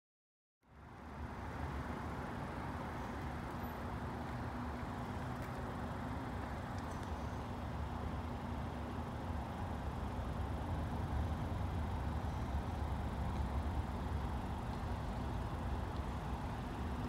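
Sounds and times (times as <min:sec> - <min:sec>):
distant diesel train rumble: 0:02.8 - 0:17.0.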